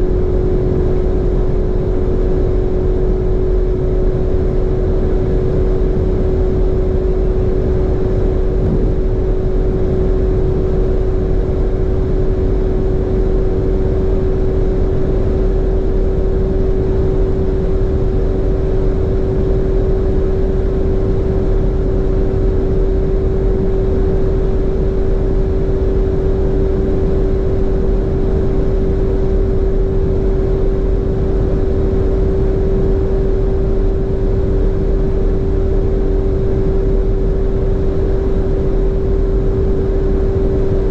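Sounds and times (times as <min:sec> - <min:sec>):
car engine at high speed: 0:00.0 - 0:40.9
rush of road and wind noise: 0:00.0 - 0:40.9.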